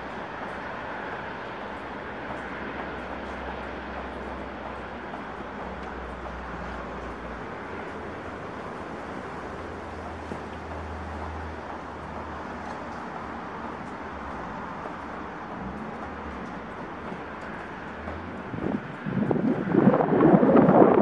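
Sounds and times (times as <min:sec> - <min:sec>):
low rumble of distant traffic: 0:00.0 - 0:21.0.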